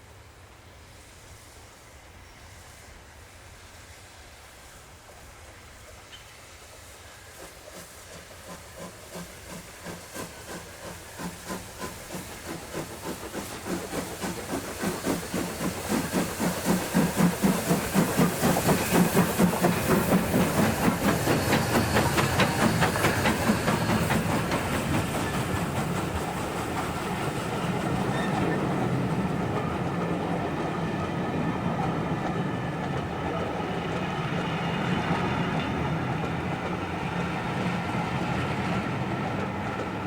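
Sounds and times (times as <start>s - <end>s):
steam hissing: 0.0s - 39.0s
steam locomotive chuffing: 0.8s - 40.0s.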